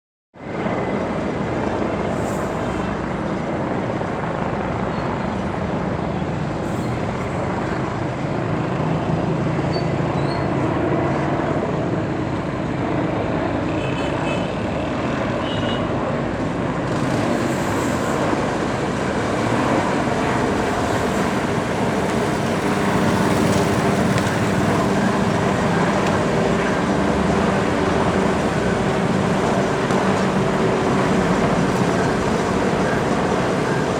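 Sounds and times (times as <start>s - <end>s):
helicopter flying overhead: 0.4s - 33.9s.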